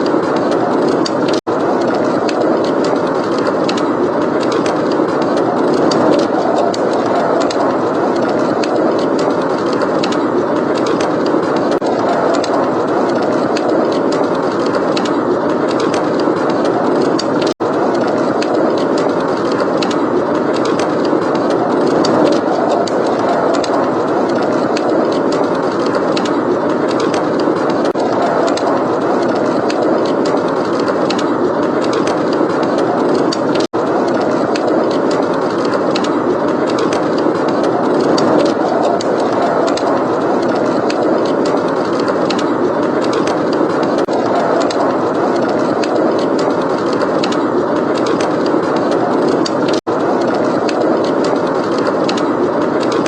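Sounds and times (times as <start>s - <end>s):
blizzard wind rushing: 0.0s - 53.0s
log fire crackling: 0.0s - 53.0s.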